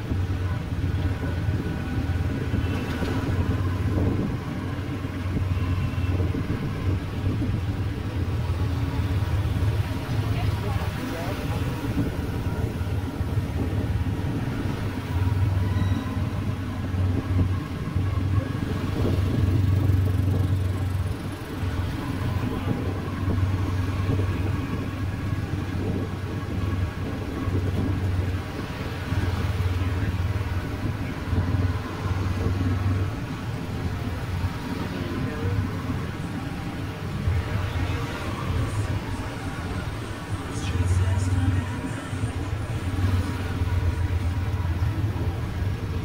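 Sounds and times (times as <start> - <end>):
motorbike engine and road rumble: 0.0 - 46.0.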